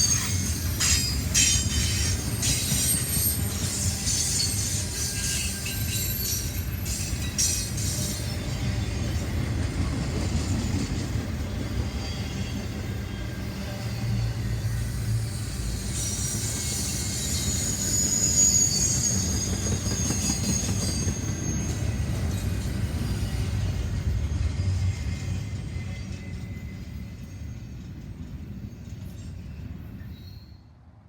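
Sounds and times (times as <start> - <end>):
high wheel squeal: 0.0 - 9.6, 11.5 - 27.8
train rumbling on rails: 0.0 - 31.0.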